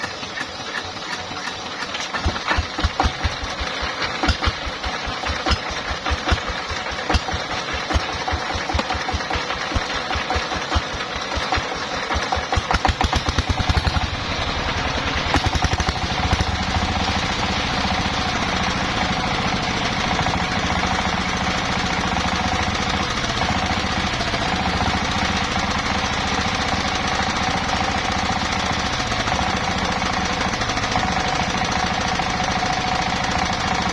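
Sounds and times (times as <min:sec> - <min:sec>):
sawmill engine knocking: 0:00.0 - 0:33.9.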